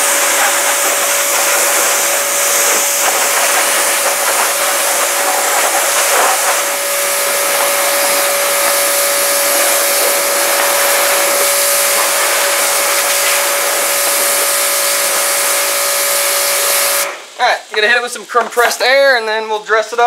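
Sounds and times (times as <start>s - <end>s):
motor hum: 0.0s - 17.4s
pressure washer water jet hissing: 0.0s - 19.1s.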